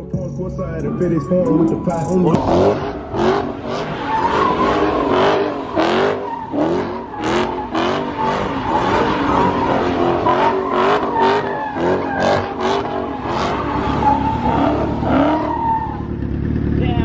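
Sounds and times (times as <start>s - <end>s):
car engine revving: 0.0s - 17.0s
tires squealing: 0.2s - 16.8s.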